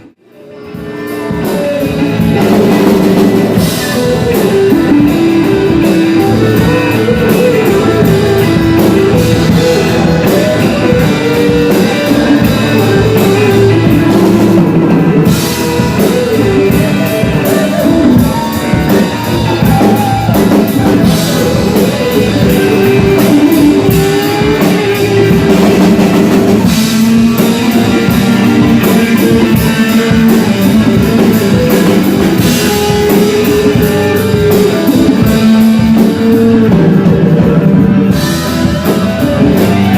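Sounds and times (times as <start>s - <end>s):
loud rock music: 0.0s - 39.9s.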